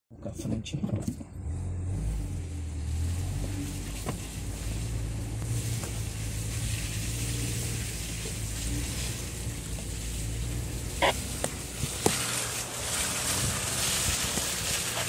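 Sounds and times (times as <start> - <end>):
road noise: 0.2 - 15.0
low engine hum: 0.3 - 15.0.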